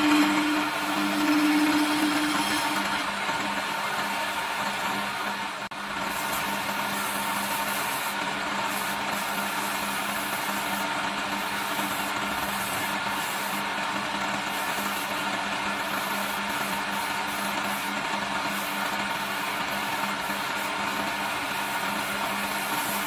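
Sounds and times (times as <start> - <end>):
sandpaper hissing on spinning wood: 0.0 - 5.2, 5.8 - 23.0
wood lathe motor hum: 0.0 - 23.0.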